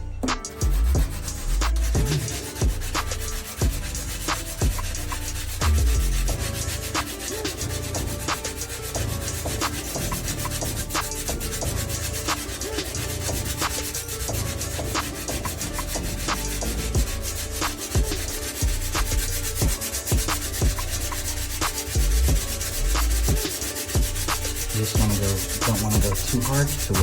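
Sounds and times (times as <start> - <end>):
sandpaper scratching on filler: 0.3 - 27.0.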